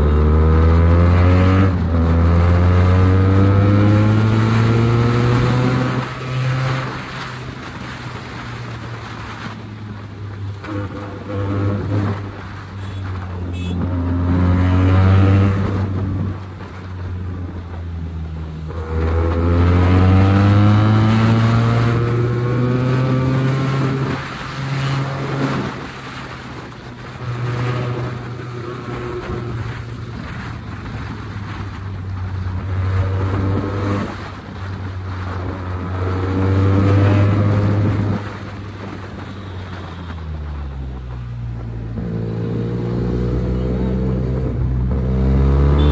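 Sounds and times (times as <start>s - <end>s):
motorcycle exhaust revving: 0.0s - 9.0s, 10.4s - 45.9s.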